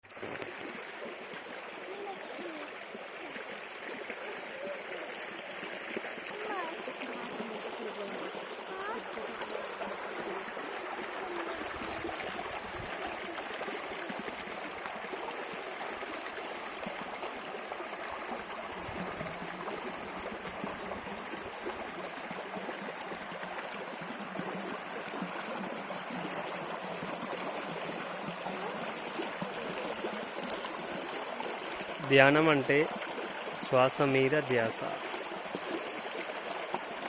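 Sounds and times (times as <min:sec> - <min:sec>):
stream flowing over rocks: 0:00.0 - 0:37.0.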